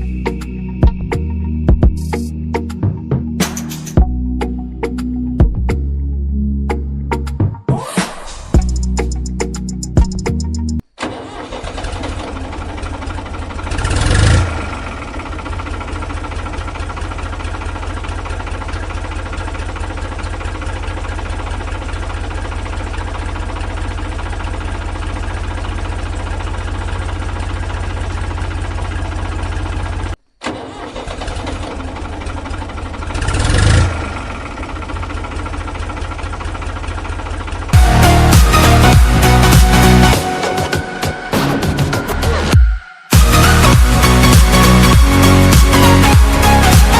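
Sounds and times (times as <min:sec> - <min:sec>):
tractor engine running: 0:00.0 - 0:06.1, 0:08.6 - 0:46.9.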